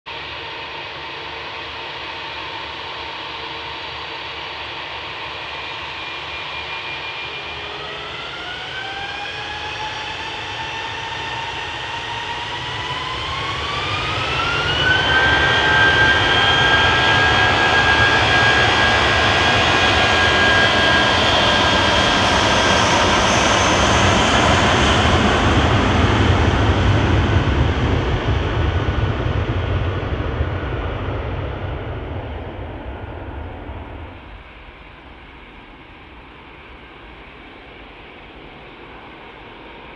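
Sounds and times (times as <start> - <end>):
jet engines spooling up: 2.2 - 39.9
deep rumble of aircraft rolling: 4.5 - 39.9.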